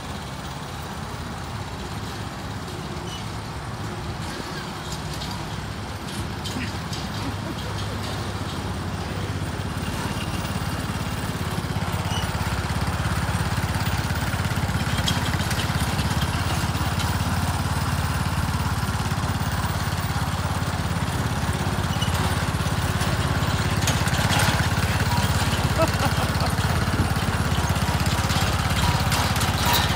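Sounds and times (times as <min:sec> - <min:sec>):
riding lawn mower engine: 0:00.0 - 0:29.9.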